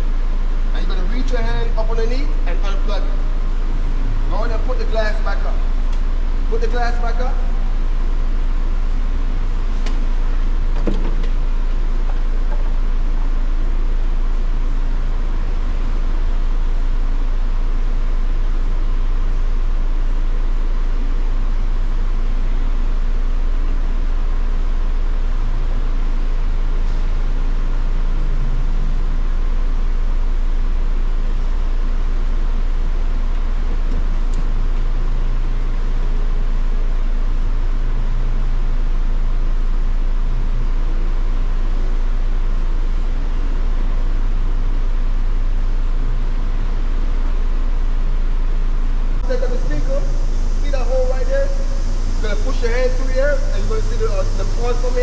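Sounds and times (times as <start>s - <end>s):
low mechanical rumble: 0.0s - 55.0s.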